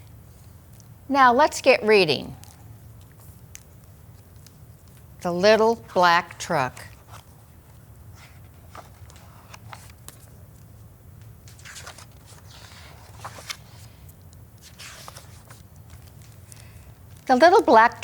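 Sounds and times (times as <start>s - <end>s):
steady low hum: 0.0s - 18.0s
book pages rustling: 2.4s - 17.8s.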